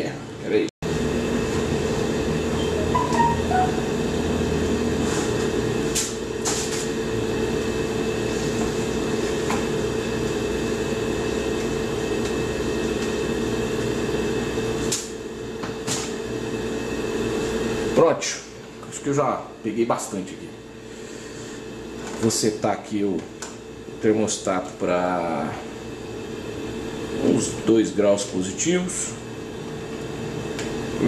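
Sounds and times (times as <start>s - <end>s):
refrigerator humming: 0.0s - 31.0s.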